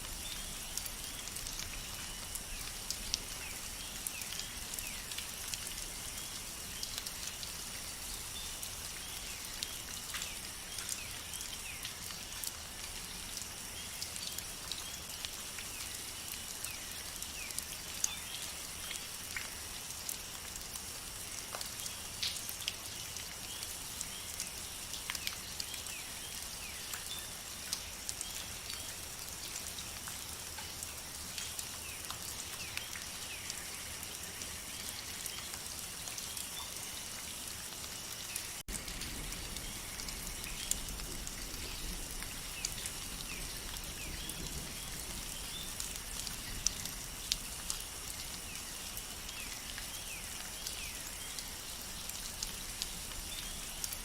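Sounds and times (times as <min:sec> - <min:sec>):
raindrops ticking: 0:00.0 - 0:54.0
steady rainfall: 0:00.0 - 0:54.0.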